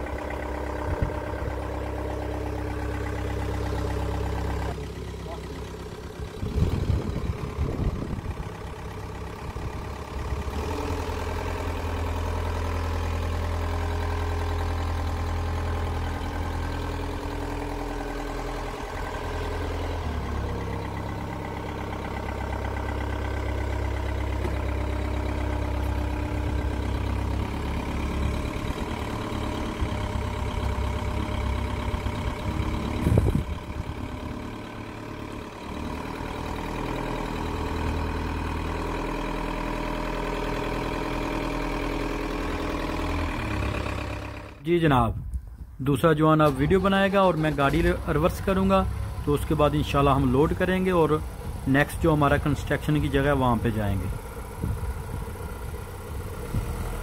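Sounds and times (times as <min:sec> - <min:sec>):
forklift engine running: 0:00.0 - 0:57.0.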